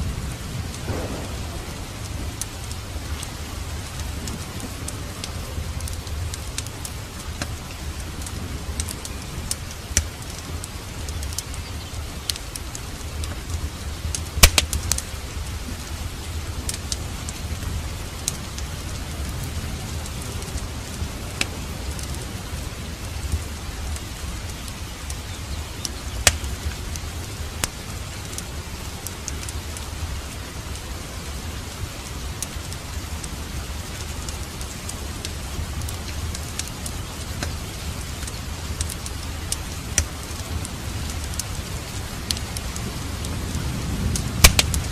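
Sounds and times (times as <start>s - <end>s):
fireplace fire crackling: 0.0s - 44.9s
steady rain: 0.0s - 44.9s.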